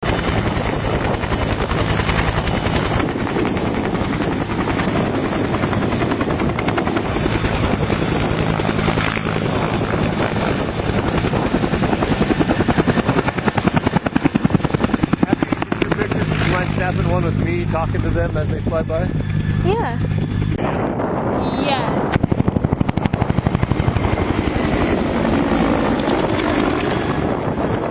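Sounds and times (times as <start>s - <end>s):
helicopter rotors beating: 0.0s - 27.9s.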